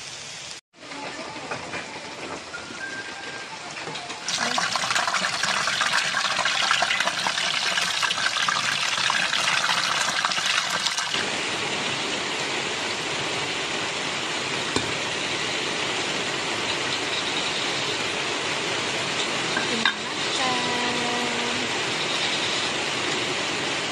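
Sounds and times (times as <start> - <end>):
chicken sizzling in hot oil: 0.0 - 0.6, 4.1 - 23.9.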